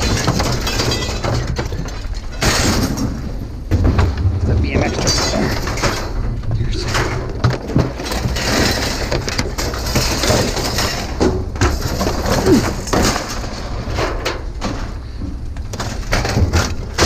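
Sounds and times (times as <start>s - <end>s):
scrap items clattering: 0.0s - 17.0s
steady low rumble: 1.9s - 17.0s.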